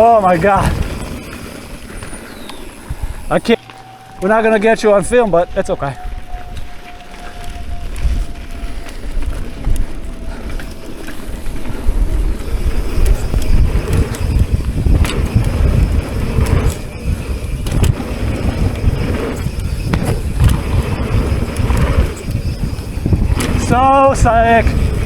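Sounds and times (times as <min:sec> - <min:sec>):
bike rattling over rough ground: 0:00.0 - 0:25.0
wind buffeting microphone: 0:00.0 - 0:25.0.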